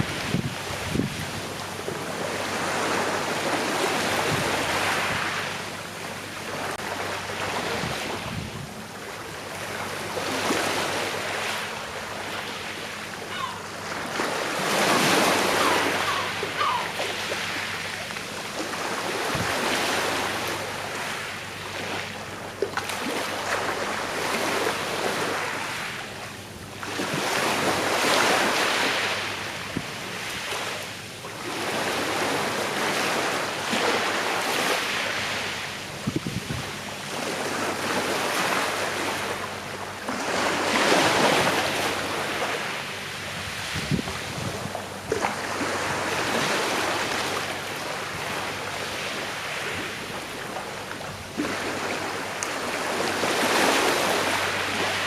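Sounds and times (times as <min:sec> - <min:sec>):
waves washing onto shore: 0:00.0 - 0:55.0.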